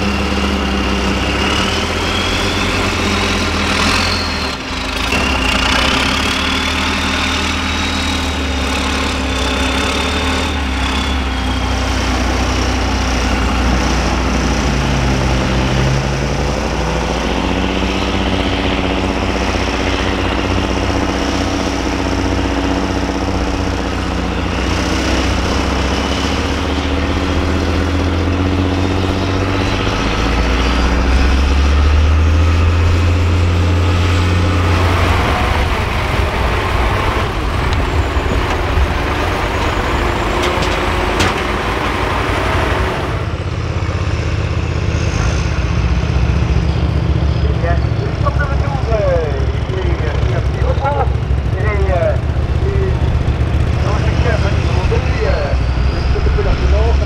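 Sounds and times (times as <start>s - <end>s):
diesel truck engine under load: 0.0s - 57.0s
second diesel truck engine: 0.0s - 57.0s.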